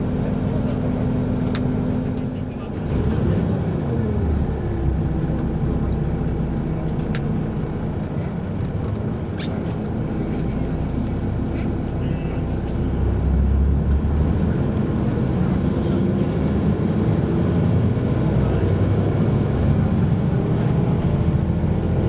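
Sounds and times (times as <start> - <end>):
bus engine rumble: 0.0 - 22.0
road noise: 0.0 - 22.0.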